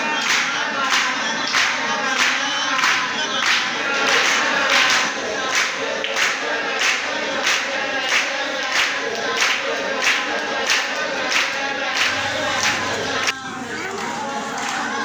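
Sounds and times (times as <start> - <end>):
group of voices singing: 0.0 - 15.0
people clapping in time: 0.0 - 15.0.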